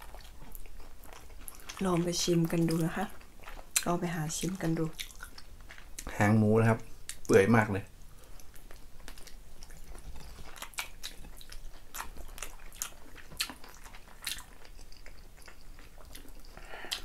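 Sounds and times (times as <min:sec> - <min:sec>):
people chewing: 0:00.0 - 0:07.4, 0:08.0 - 0:17.0.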